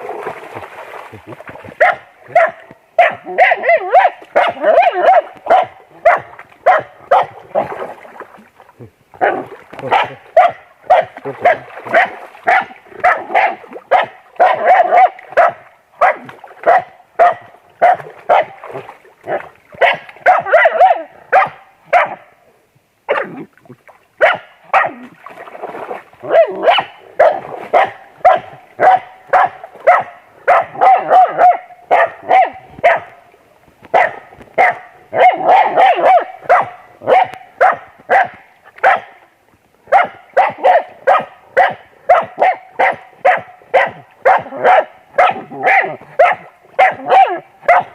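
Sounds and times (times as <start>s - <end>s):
dog barking excitedly: 1.8s - 7.7s, 9.2s - 18.6s, 19.3s - 22.2s, 23.1s - 23.4s, 24.2s - 25.0s, 26.2s - 33.1s, 33.9s - 39.1s, 39.9s - 47.9s.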